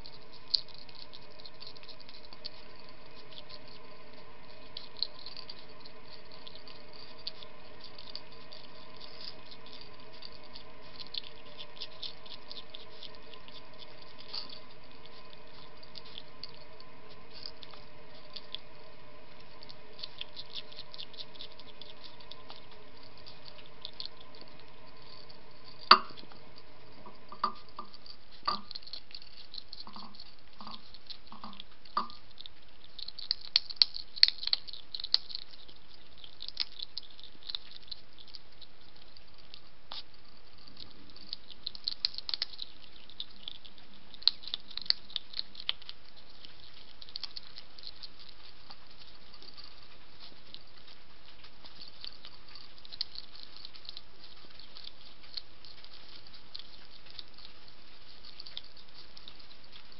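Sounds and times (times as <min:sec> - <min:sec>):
animal crunching food pellets: 0:00.0 - 0:59.9
steady low hum: 0:00.0 - 0:59.9.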